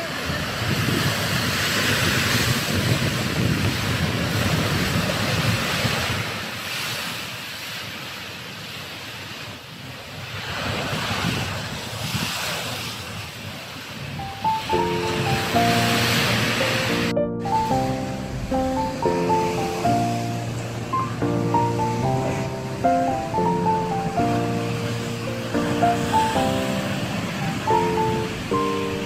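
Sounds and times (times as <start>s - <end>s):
ocean surf washing: 0.0s - 29.0s
wind on microphone: 0.0s - 29.0s.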